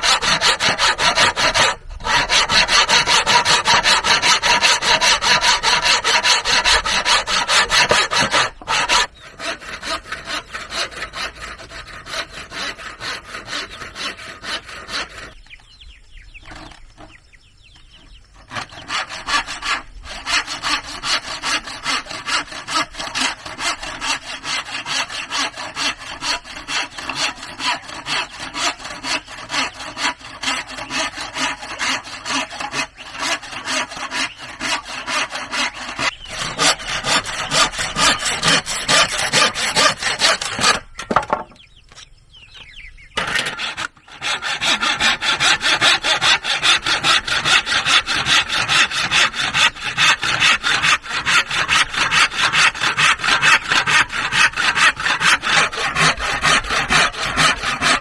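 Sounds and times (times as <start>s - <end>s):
hand saw cutting wood: 0.0s - 15.4s, 18.4s - 41.5s, 43.2s - 58.0s.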